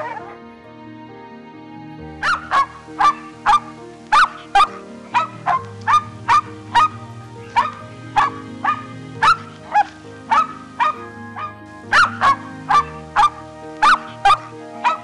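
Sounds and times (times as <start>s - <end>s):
yelping animal calls: 0.0s - 0.4s, 2.2s - 15.0s
background music with low notes: 0.0s - 15.0s.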